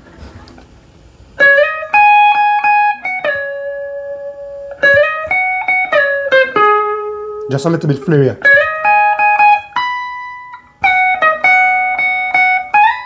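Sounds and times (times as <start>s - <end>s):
electric guitar solo: 1.4s - 13.0s
guitar string noise: 1.4s - 13.0s.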